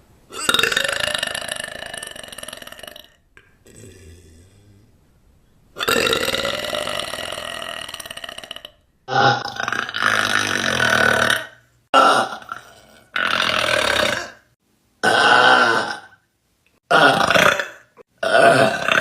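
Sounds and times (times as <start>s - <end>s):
woman burping loudly: 0.3s - 4.4s, 5.8s - 16.2s, 16.9s - 19.0s.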